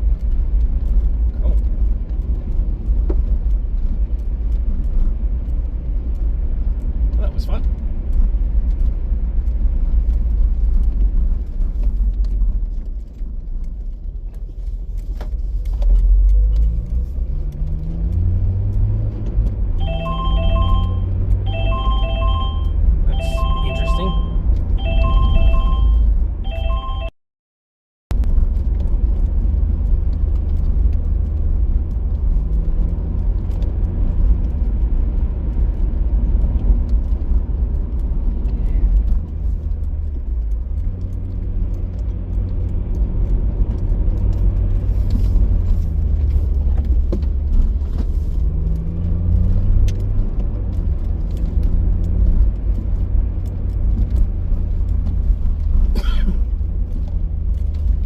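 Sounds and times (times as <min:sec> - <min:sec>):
car engine and road rumble: 0:00.0 - 0:27.1, 0:28.1 - 0:58.0.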